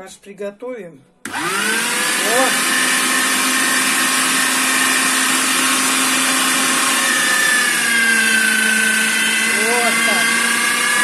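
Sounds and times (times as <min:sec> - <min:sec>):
electric meat grinder humming: 0:01.3 - 0:11.0.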